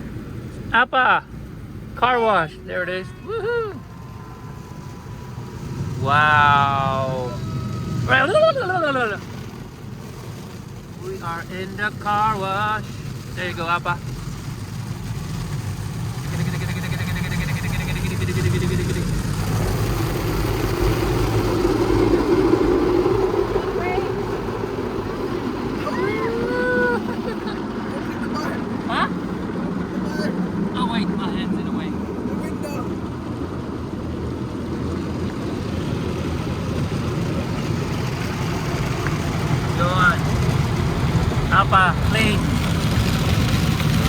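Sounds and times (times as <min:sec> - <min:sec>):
car wash low rumble: 0:00.0 - 0:44.0
car wash rushing noise: 0:00.0 - 0:44.0.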